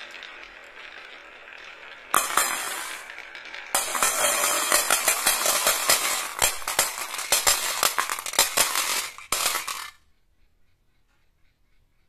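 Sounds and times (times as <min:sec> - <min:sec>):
marbles clinking on metal: 0:00.0 - 0:10.1
marbles rolling on wooden track: 0:00.0 - 0:10.1.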